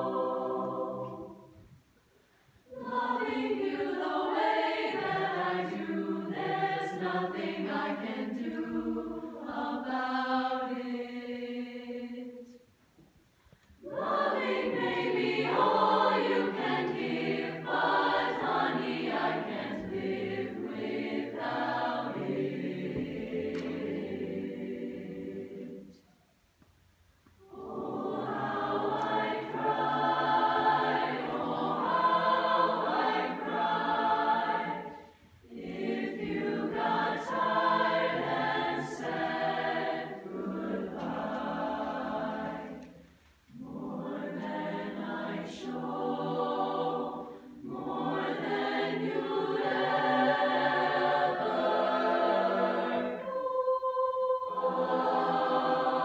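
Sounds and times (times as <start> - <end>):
choir singing in parts: 0.0 - 1.8, 2.6 - 12.7, 13.8 - 26.1, 27.4 - 56.0.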